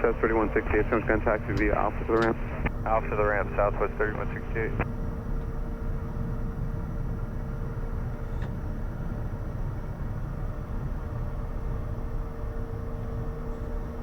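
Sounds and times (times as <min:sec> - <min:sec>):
aircraft cockpit rumble: 0:00.0 - 0:14.0.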